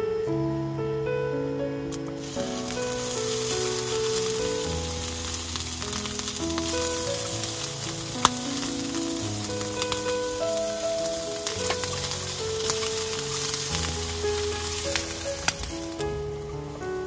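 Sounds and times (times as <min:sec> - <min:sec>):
soft background music: 0:00.0 - 0:17.0
meat sizzling in hot oil: 0:02.2 - 0:17.0.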